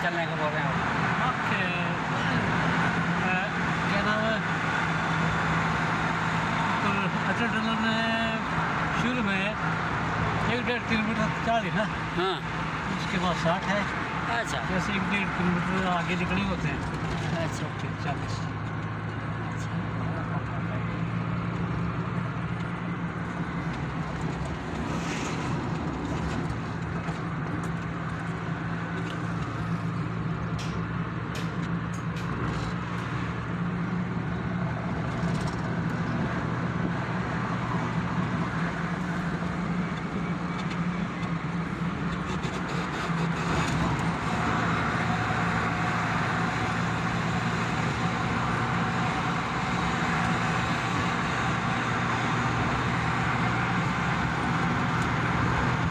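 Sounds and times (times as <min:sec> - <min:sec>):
car engine and tyre drone: 0:00.0 - 0:55.9.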